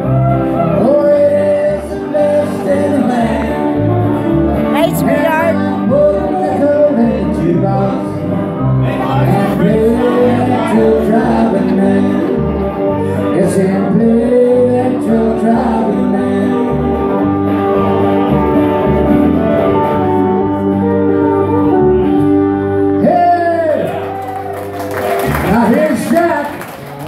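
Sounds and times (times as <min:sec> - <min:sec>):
pedal steel guitar: 0:00.0 - 0:23.7
acoustic guitar: 0:00.0 - 0:26.1
live country band playing: 0:00.0 - 0:27.0.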